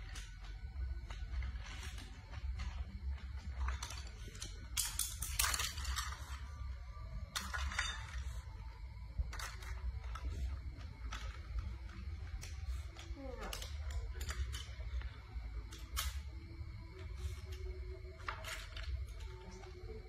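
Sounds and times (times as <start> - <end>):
rustles and crinkles: 0.0 - 20.0.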